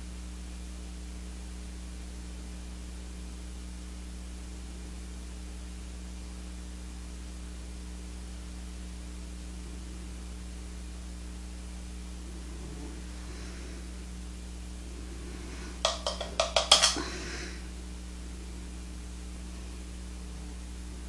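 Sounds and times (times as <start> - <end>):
electrical mains hum: 0.0 - 21.0
constant hiss: 3.8 - 21.0.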